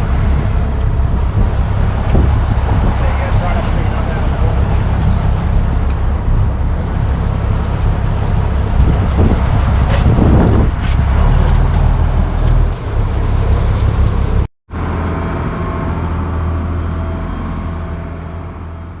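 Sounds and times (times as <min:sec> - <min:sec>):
wind noise: 0:00.0 - 0:16.3
engine running: 0:00.0 - 0:19.0.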